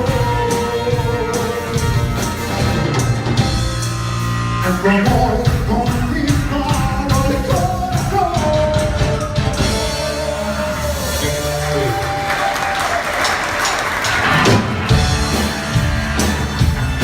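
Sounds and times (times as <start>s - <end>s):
live cumbia band playing: 0.0s - 17.0s.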